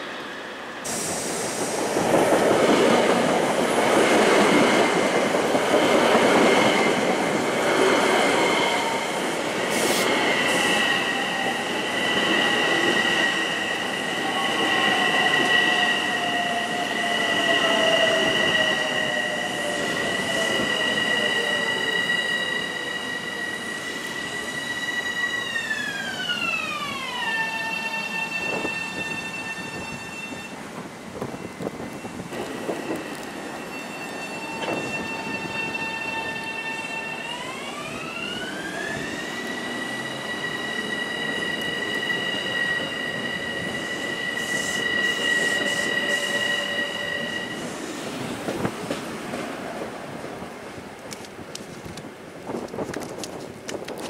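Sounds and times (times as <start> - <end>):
electric train high whine: 0.0 - 50.8
train wheels rumbling on rails: 0.0 - 54.0.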